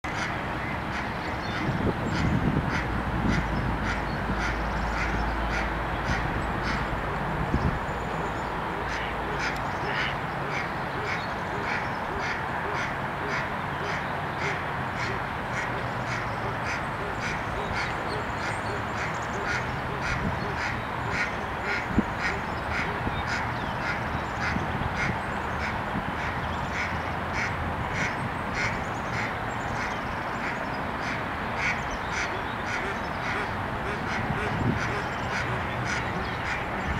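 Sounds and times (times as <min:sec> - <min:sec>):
ducks quacking: 0:00.1 - 0:06.9, 0:08.7 - 0:36.9.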